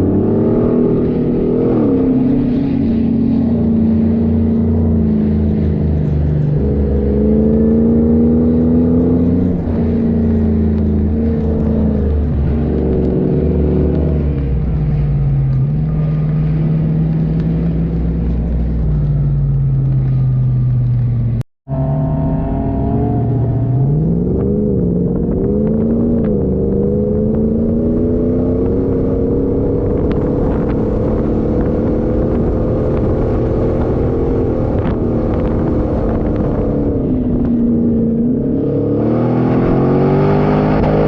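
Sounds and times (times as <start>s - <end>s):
off-road vehicle engine under load: 0.0s - 41.0s.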